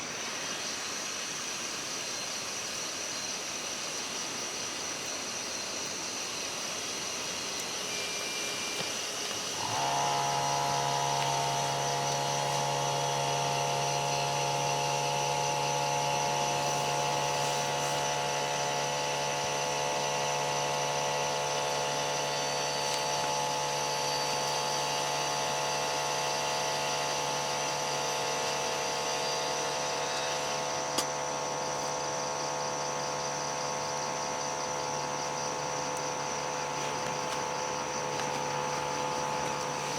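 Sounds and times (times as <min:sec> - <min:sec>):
small motor humming: 0:00.0 - 0:39.9.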